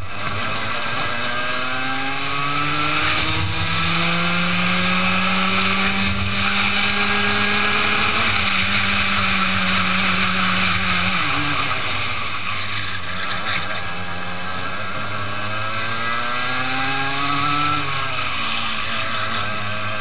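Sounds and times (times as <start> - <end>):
kart engine at full throttle: 0.0 - 20.0.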